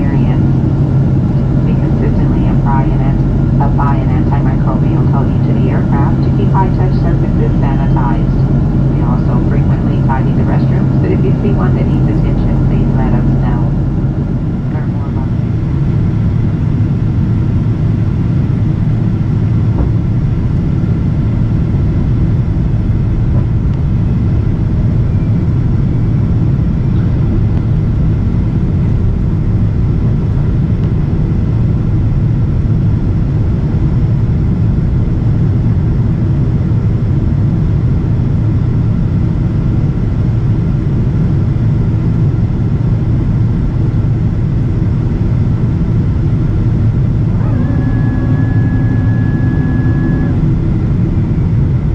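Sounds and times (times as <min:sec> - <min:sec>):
airplane cabin engine rumble: 0:00.0 - 0:51.9
faint steady whines: 0:00.0 - 0:51.9.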